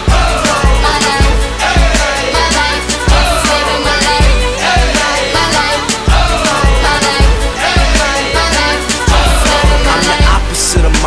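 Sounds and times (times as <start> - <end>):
hip hop backing track: 0.0 - 11.0.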